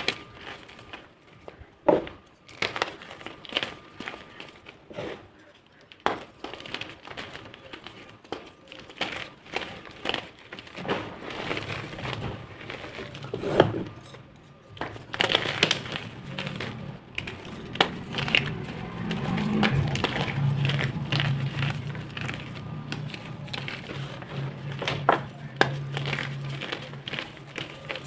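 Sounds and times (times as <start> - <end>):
chalk being crushed: 0.0 - 28.0.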